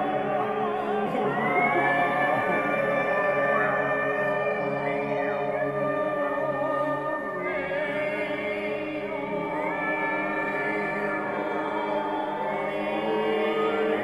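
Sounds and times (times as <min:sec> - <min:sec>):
choir-like voices holding notes: 0:00.0 - 0:14.0.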